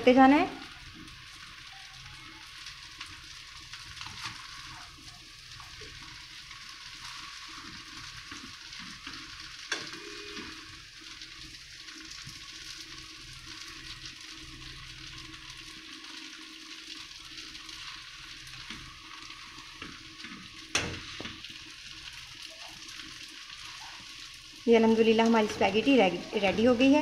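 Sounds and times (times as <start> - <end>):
food sizzling in a wok: 0.0 - 27.0.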